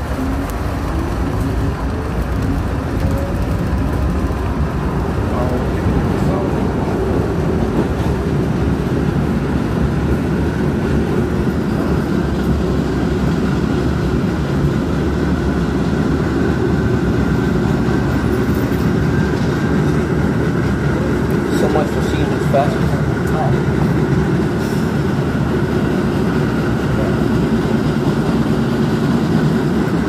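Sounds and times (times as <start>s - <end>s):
subway train rumbling in tunnel: 0.0s - 30.0s.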